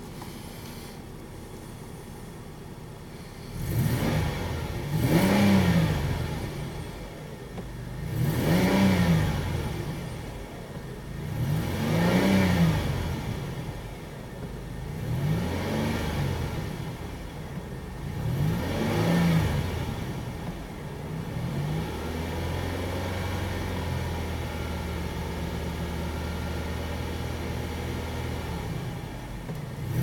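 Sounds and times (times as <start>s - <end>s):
car engine starting and revving: 2.0s - 30.0s.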